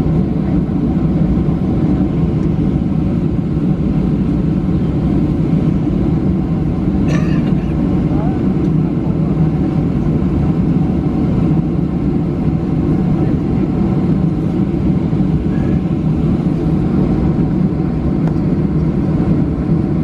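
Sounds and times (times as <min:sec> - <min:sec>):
jet engines low rumble: 0:00.0 - 0:20.0.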